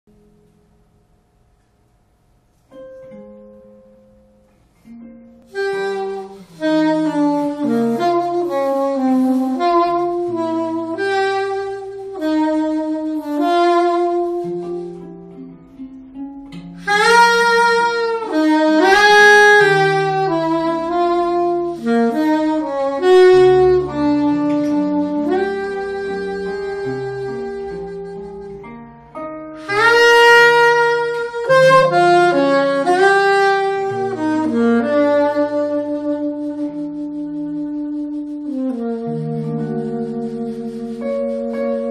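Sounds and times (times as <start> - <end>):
amplified guitar: 2.5 - 41.9
soprano saxophone: 2.7 - 41.9.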